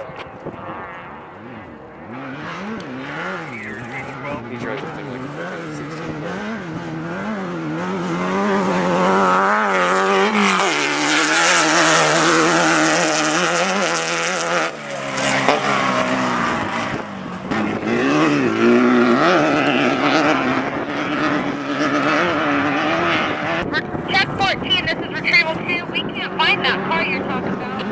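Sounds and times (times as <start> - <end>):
race car engine revving: 0.0 - 27.9.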